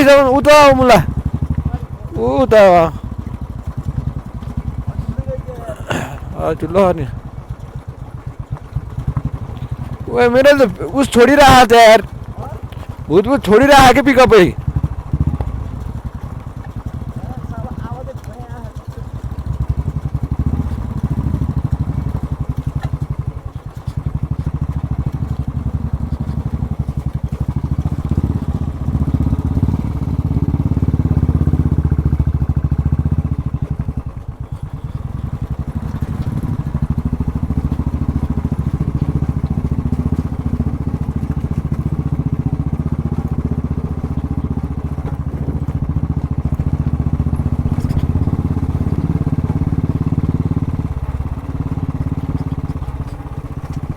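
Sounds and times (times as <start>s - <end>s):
motorcycle engine rumble: 0.0s - 53.9s.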